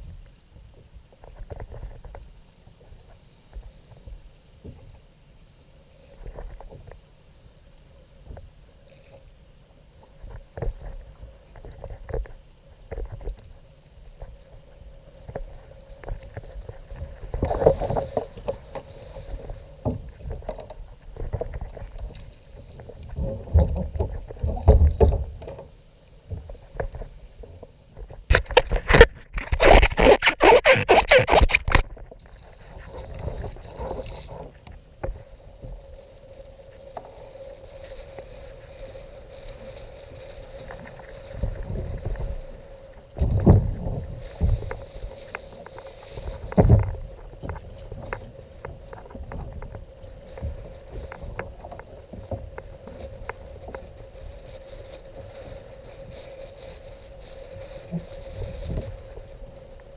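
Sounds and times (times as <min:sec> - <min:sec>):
water sloshing against hull: 0:05.9 - 0:59.9.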